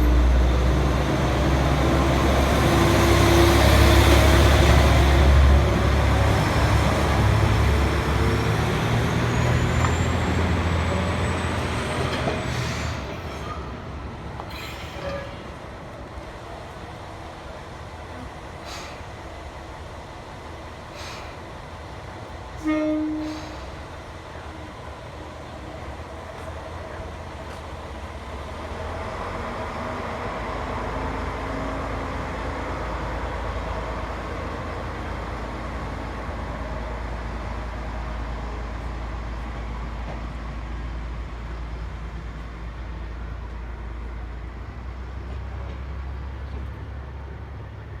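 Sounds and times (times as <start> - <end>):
diesel railcar rumbling: 0.0 - 48.0.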